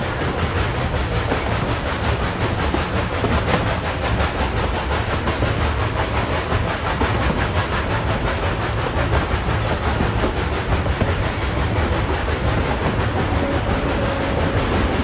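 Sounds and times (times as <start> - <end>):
train car rumble and clatter: 0.0 - 15.0
wheels clickety-clack: 0.0 - 15.0.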